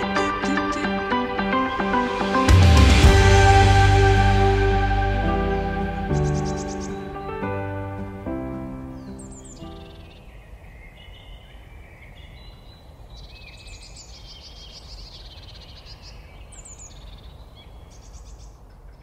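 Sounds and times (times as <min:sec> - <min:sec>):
songbirds chirping and trilling: 0:00.0 - 0:02.2, 0:04.2 - 0:19.0.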